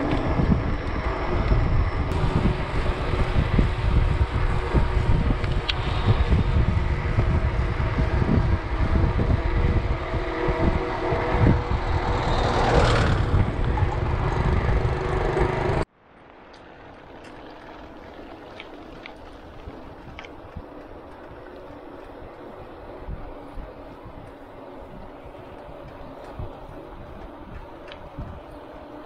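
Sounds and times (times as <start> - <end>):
wind buffeting microphone: 0.0 - 15.9, 16.8 - 29.0
bicycle rolling and rattling: 0.0 - 29.0.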